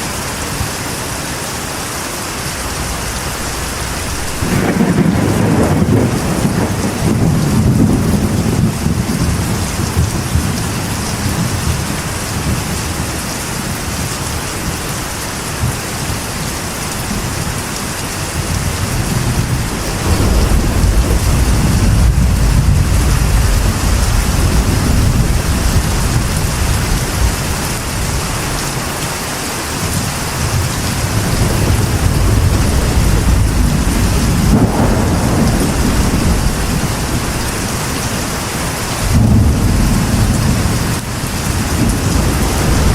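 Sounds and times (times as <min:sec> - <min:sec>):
rain drumming on a metal roof: 0:00.0 - 0:42.9
rolling thunder: 0:02.1 - 0:14.1, 0:18.4 - 0:28.9, 0:29.9 - 0:42.9.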